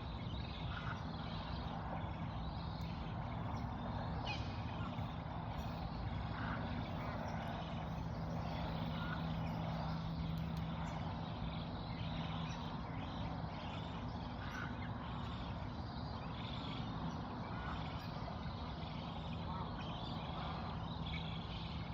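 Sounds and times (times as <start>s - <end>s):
low motor rumble: 0.0s - 21.9s.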